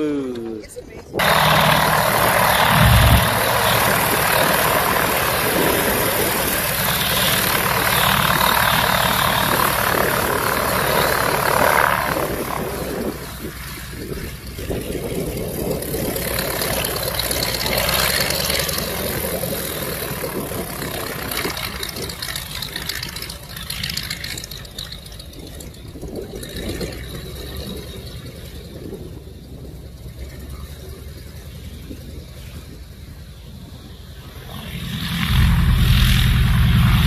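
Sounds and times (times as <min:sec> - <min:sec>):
biplane radial engine running: 0:00.0 - 0:37.0.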